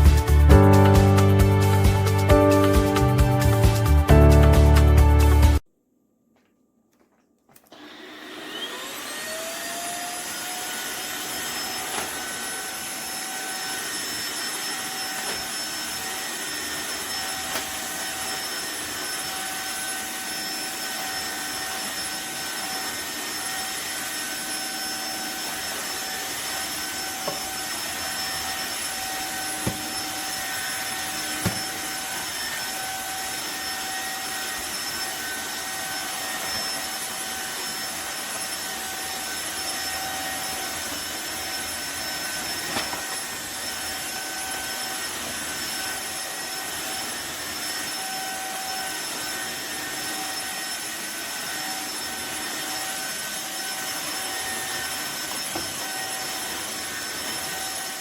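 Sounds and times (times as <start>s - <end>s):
floor cleaner motor whining: 7.5s - 58.0s.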